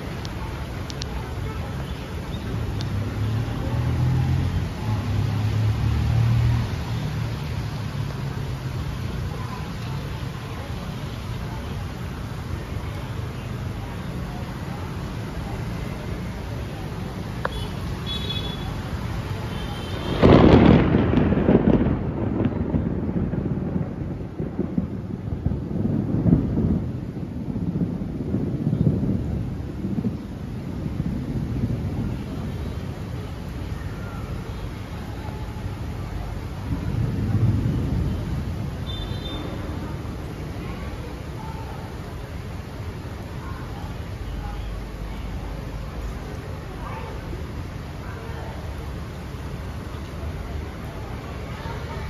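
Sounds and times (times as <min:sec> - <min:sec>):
passing road vehicle rumble: 0:00.0 - 0:52.0
rain hissing: 0:00.0 - 0:52.0.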